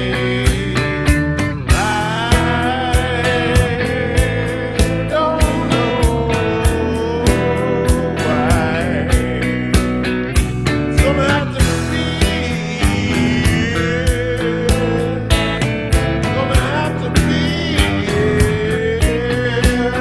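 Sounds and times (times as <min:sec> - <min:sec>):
drum beat: 0:00.0 - 0:20.0
electric guitar: 0:00.0 - 0:20.0
person singing: 0:00.0 - 0:20.0.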